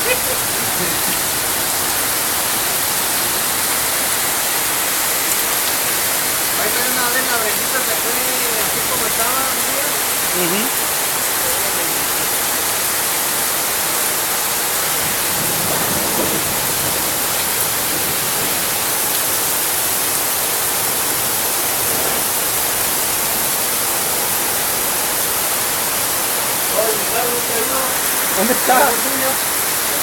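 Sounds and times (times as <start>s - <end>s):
heavy rain on a flooded street: 0.0s - 30.0s.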